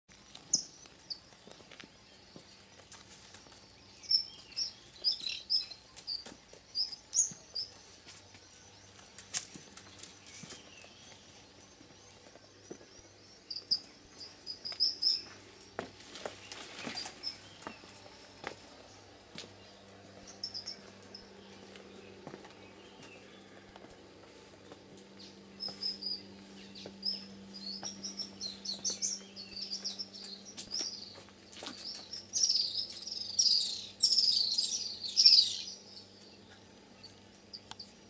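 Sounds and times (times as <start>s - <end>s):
songbirds chirping: 0.1s - 38.0s.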